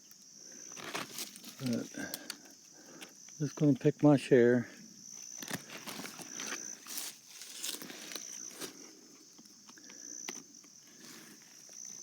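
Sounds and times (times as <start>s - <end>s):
mushroom snapping and rustling: 0.0s - 3.4s, 5.1s - 12.0s
high insect trill: 0.0s - 12.0s.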